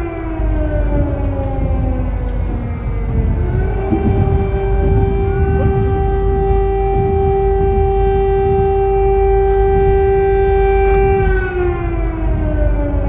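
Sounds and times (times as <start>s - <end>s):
air-raid siren wailing: 0.0s - 13.0s
low rumble: 0.4s - 13.0s.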